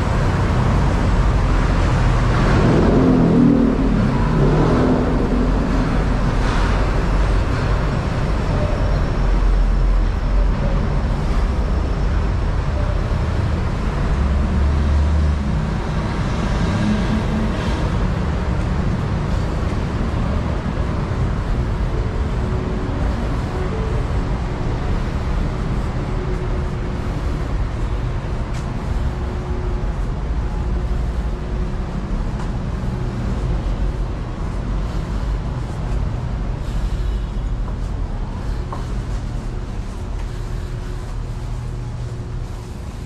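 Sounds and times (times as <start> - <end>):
city traffic rumble: 0.0 - 43.0.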